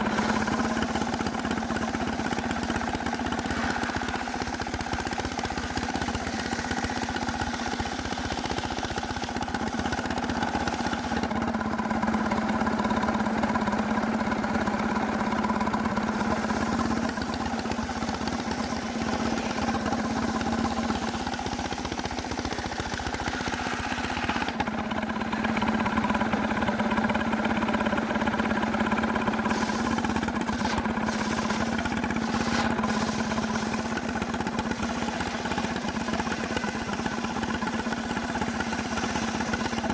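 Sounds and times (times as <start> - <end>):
sawmill engine cutting wood: 0.0 - 39.9.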